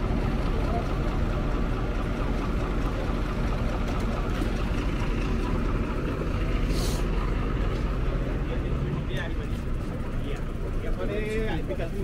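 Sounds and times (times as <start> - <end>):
low rumble of motor traffic: 0.0 - 12.0.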